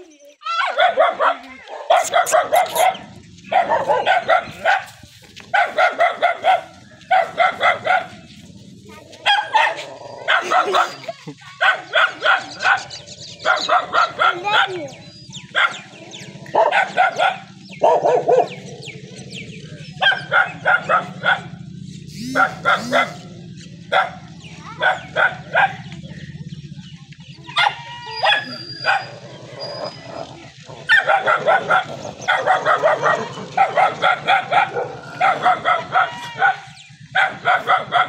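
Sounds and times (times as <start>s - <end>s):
dogs barking: 0.4s - 38.0s.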